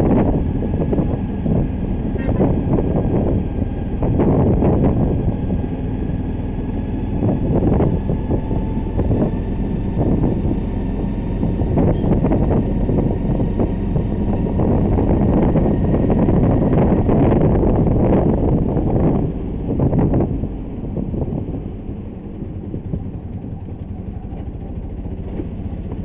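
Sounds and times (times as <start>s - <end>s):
vehicle and tyres rumbling on road: 0.0s - 26.0s
wind rushing over microphone: 0.0s - 26.0s.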